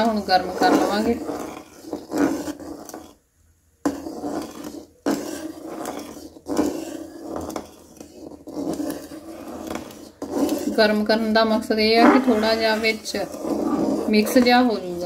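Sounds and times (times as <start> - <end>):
metal spoon scraping a pan: 0.0 - 3.2, 3.8 - 15.0.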